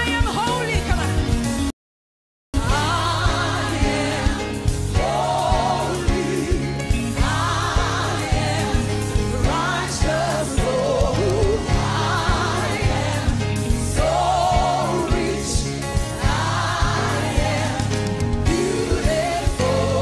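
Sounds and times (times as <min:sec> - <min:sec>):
gospel choir music with drums: 0:00.0 - 0:01.7, 0:02.6 - 0:20.0.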